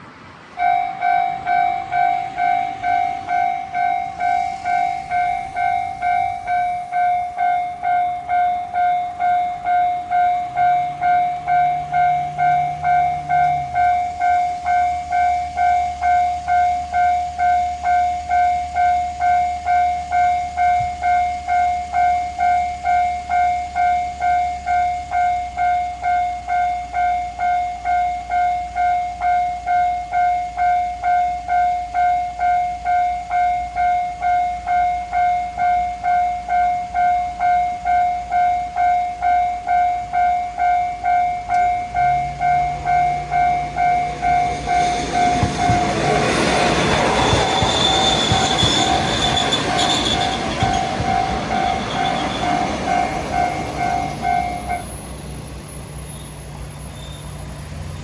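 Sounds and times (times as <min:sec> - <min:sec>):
level crossing warning bell: 0:00.0 - 0:58.0
train passing: 0:00.0 - 0:58.0.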